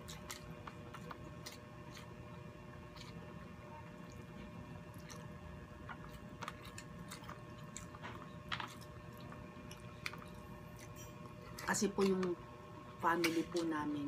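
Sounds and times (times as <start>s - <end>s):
people chewing food: 0.0s - 12.3s.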